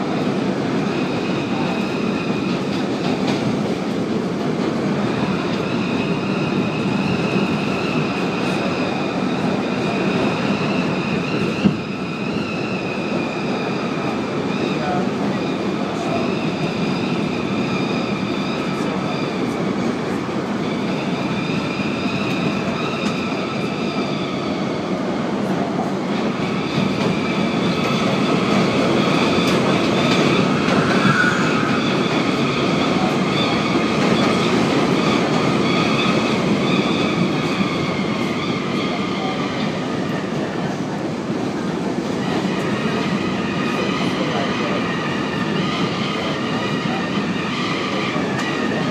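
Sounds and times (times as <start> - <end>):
passing train: 0.0 - 48.9
train wheels rumbling on rail: 0.0 - 48.9.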